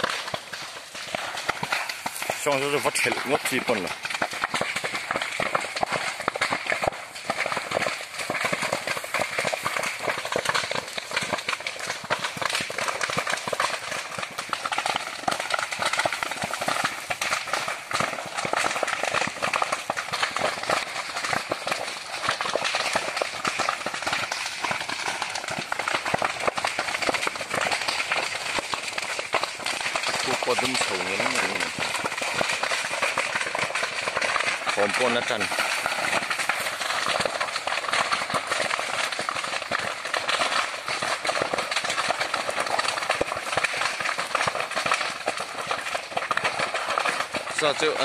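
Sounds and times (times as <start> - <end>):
brush fire crackling: 0.0 - 48.0.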